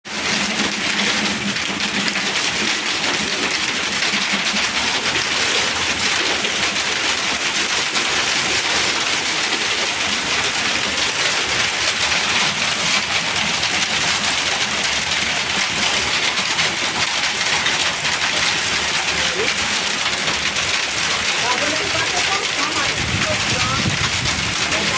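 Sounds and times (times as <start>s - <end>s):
hail falling hard: 0.0s - 24.9s.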